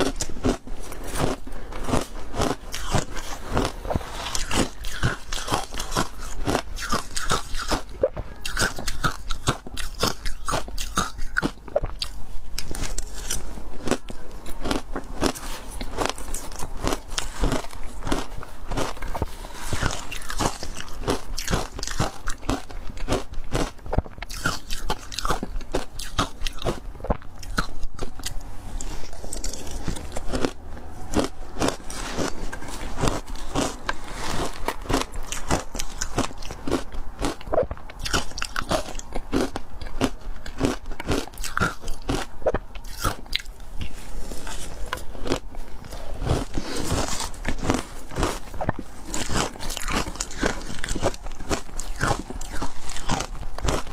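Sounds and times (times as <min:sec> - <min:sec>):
ice being chewed: 0:00.0 - 0:53.9.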